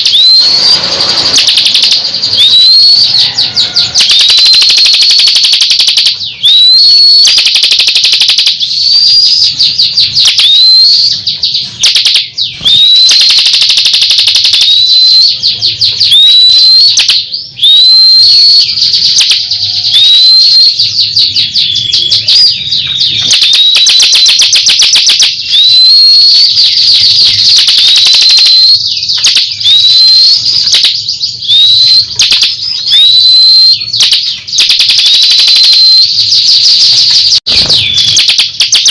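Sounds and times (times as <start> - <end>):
songbird trilling and whistling: 0.0 - 38.9.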